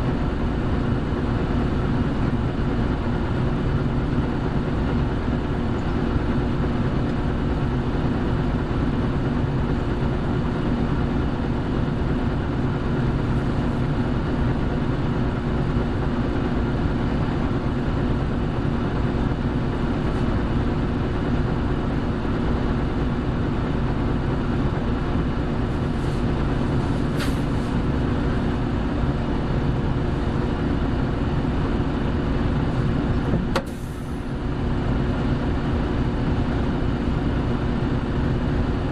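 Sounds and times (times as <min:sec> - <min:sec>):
bus diesel engine: 0:00.0 - 0:38.9
road rumble: 0:00.0 - 0:38.9.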